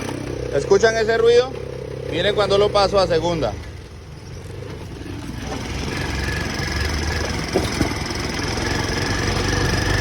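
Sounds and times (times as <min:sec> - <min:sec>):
motorcycle engine and gearbox running: 0:00.0 - 0:10.0.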